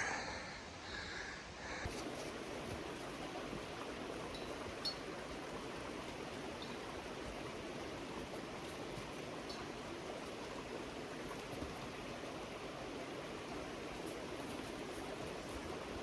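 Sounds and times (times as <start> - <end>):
creek water rushing: 1.8 - 16.0.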